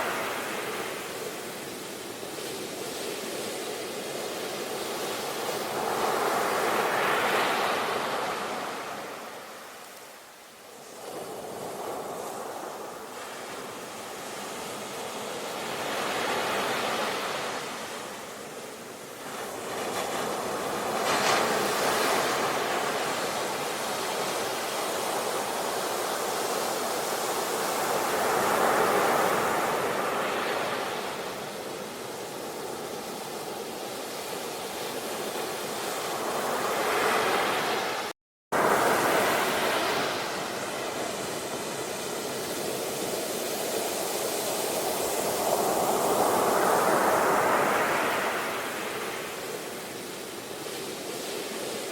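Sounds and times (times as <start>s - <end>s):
ocean waves washing ashore: 0.0s - 51.9s.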